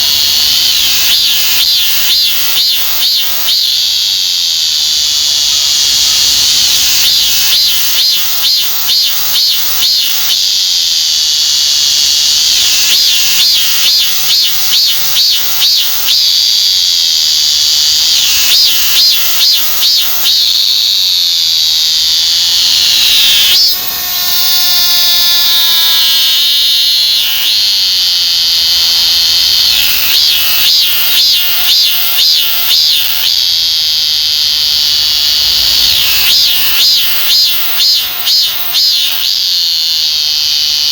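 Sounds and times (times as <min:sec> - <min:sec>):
cicada singing loudly: 0:00.0 - 0:40.9.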